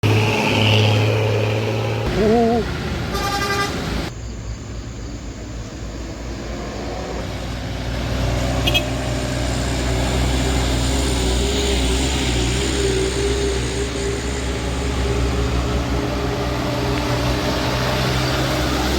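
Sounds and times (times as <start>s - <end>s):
bus engine droning: 0.0s - 18.9s.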